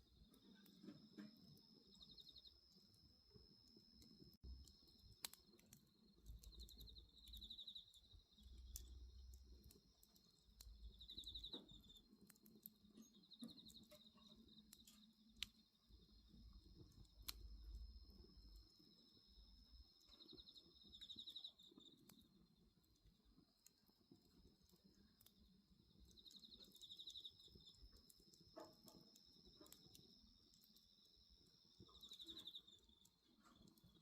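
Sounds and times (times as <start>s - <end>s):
bonfire crackling and popping: 0.0s - 34.0s
insects chirping in trills: 0.0s - 34.0s.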